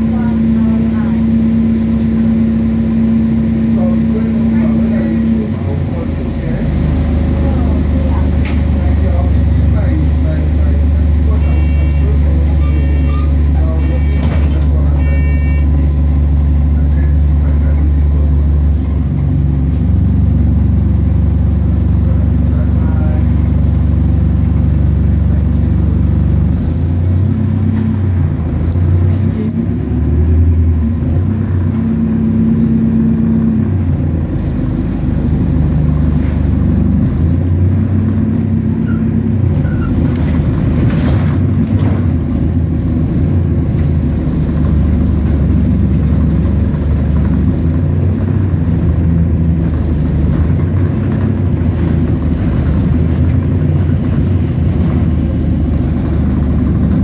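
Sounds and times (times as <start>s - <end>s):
bus engine changing gear: 0.0s - 21.0s, 23.7s - 57.0s.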